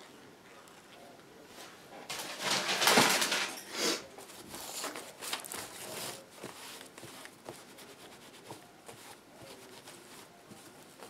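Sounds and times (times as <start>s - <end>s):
paper towel rustling and crinkling: 1.6s - 11.0s.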